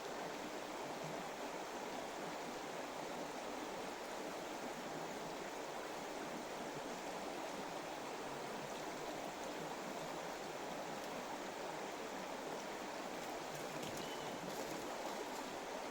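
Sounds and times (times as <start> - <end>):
stream water flowing: 0.0 - 15.9.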